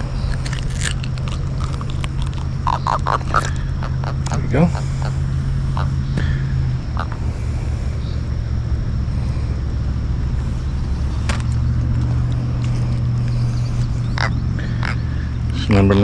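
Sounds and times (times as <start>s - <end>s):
faint chirps: 0.0s - 16.0s
low engine hum: 0.0s - 16.0s.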